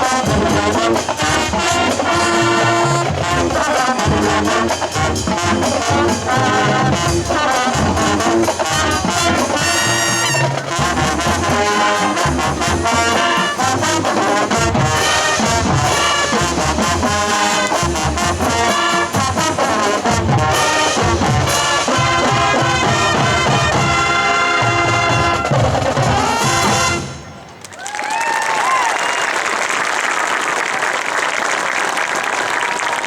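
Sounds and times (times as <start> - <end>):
marching band playing: 0.0 - 27.6.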